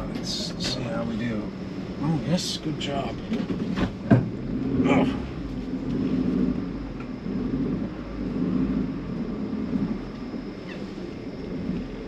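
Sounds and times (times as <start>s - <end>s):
van engine low rumble: 0.0s - 12.0s.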